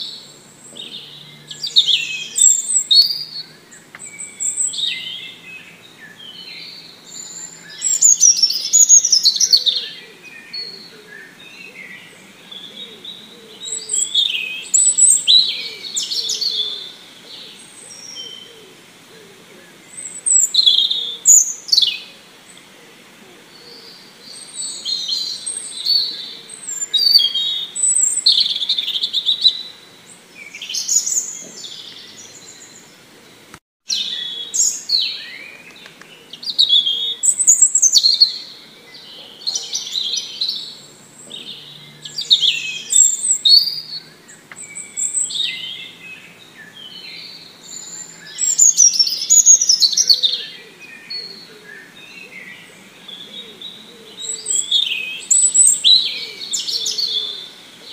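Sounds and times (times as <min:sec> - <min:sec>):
songbirds chirping and singing: 0:00.0 - 0:57.9.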